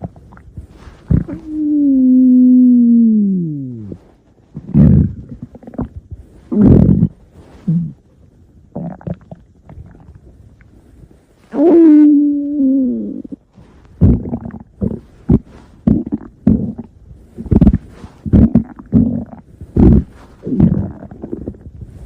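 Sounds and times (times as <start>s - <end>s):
stomach growling: 0.0s - 22.0s
stomach gurgles: 0.0s - 22.0s.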